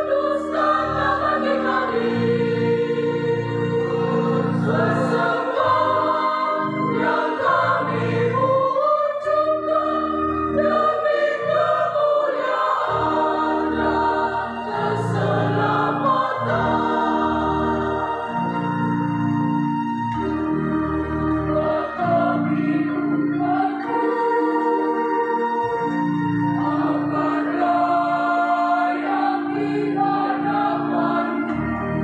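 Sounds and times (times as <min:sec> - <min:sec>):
choir singing a hymn: 0:00.0 - 0:32.0.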